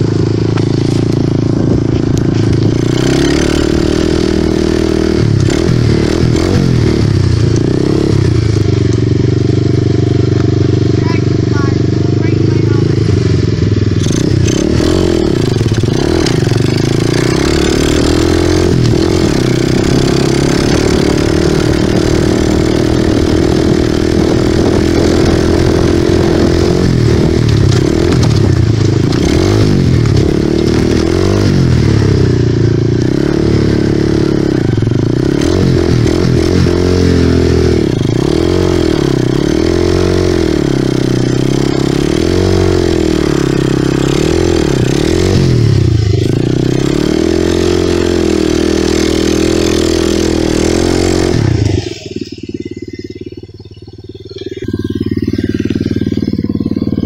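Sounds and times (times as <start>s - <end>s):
small off-road engine revving: 0.0s - 57.0s.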